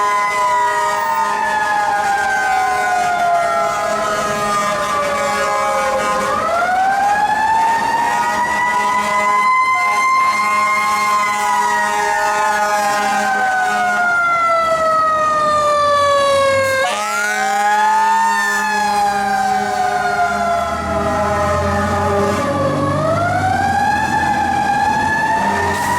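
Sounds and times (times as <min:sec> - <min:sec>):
mechanical siren wailing: 0:00.0 - 0:25.9.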